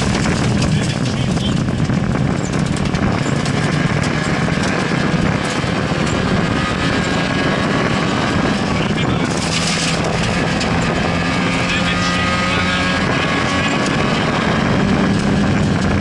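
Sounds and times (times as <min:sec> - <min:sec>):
car engine running hard: 0:00.0 - 0:16.0
road noise: 0:00.0 - 0:16.0.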